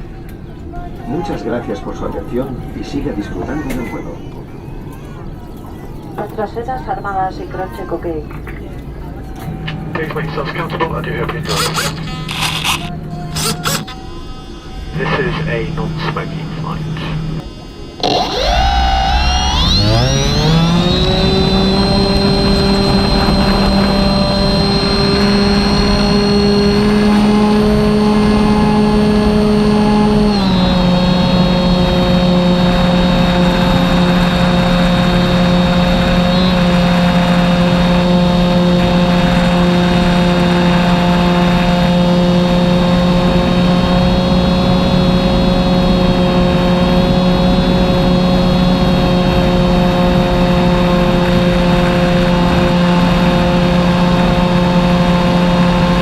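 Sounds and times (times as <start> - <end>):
constant rushing noise: 0.0 - 56.0
model plane engine and propeller: 8.3 - 56.0.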